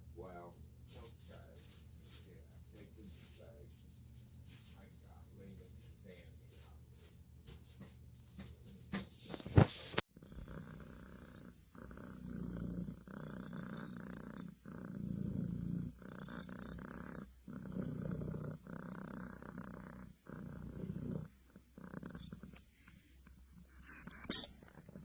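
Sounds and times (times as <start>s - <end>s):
cat purring: 0.1s - 8.6s, 9.3s - 25.0s.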